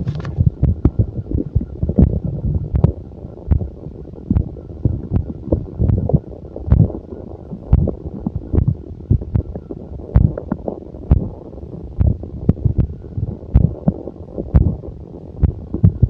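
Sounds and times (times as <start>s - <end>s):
stomach gurgling and rumbling: 0.0s - 16.0s.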